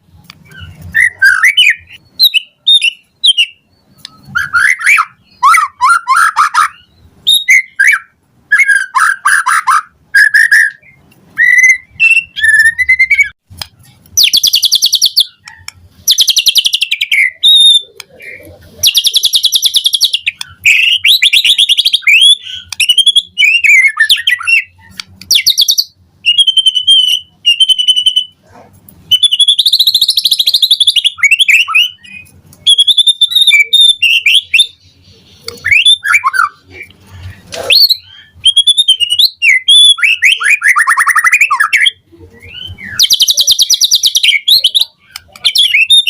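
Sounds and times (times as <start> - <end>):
bird singing whistles and trills: 0.4 - 13.4, 14.2 - 28.4, 29.1 - 36.8, 37.7 - 46.0.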